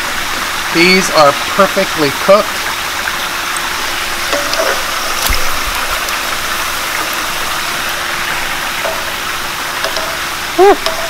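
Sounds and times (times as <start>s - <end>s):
fritters sizzling in oil: 0.0s - 11.0s.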